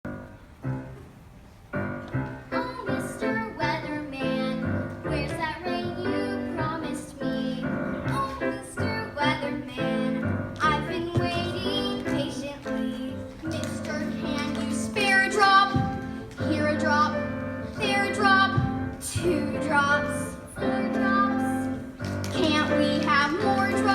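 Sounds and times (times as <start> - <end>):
instrumental accompaniment: 0.1 - 23.9
child singing: 2.6 - 23.9.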